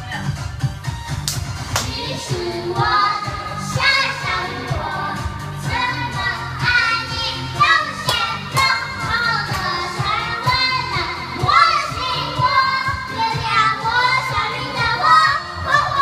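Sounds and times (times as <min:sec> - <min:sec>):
pop song with sung vocal: 0:00.0 - 0:16.0.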